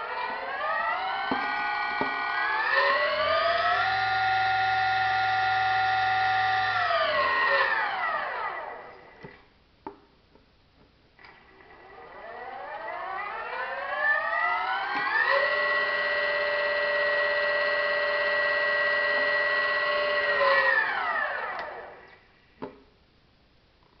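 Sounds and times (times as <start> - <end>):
electric motor whine: 0.0 - 9.1, 11.8 - 22.2.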